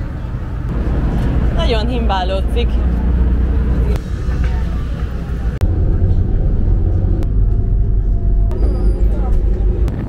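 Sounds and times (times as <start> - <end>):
ferry engine rumble: 0.0 - 10.0.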